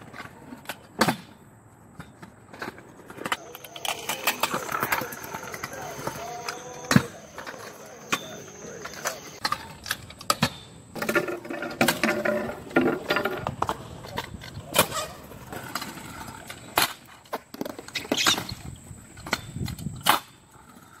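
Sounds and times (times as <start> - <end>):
scooter wheels rolling on concrete: 0.0 - 21.0.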